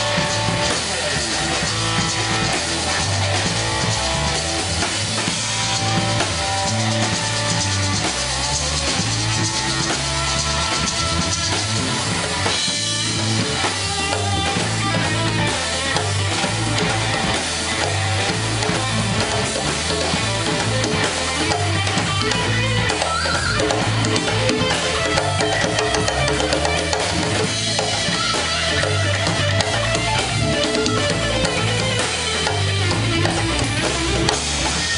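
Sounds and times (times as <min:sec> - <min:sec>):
congas: 0:00.0 - 0:34.9
drum kit: 0:00.0 - 0:34.9
electric bass line: 0:00.0 - 0:34.9
electric guitar lines: 0:00.0 - 0:34.9.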